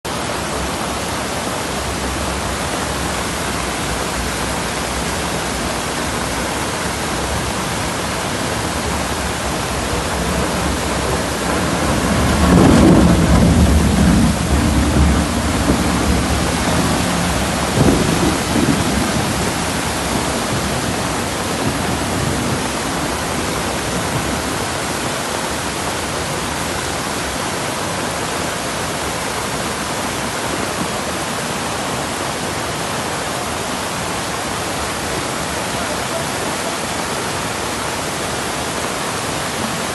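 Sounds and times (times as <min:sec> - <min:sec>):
torrential rain pouring: 0:00.0 - 0:39.9
thunder rumbling: 0:00.3 - 0:32.9.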